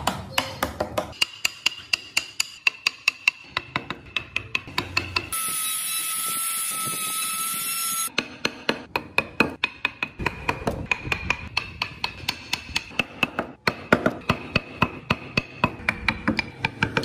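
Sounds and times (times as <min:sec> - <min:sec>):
mallet tapping wood chisel: 0:00.0 - 0:05.3, 0:08.1 - 0:17.0.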